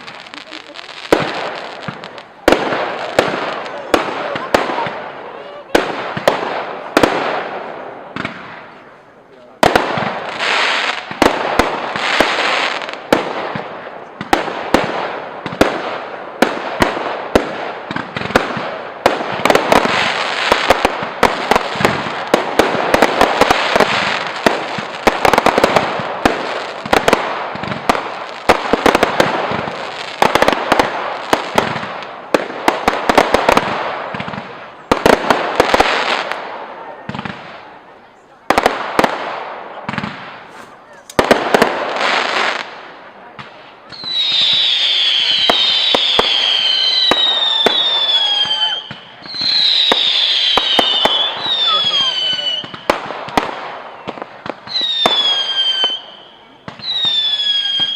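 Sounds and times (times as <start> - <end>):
fireworks bangs: 0.0 - 57.9
fireworks crackling: 0.0 - 57.9.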